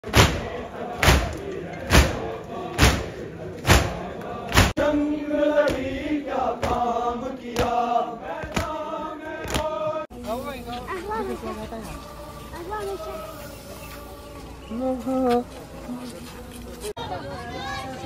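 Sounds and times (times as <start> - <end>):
men chanting together: 0.0 - 10.1, 11.3 - 16.5.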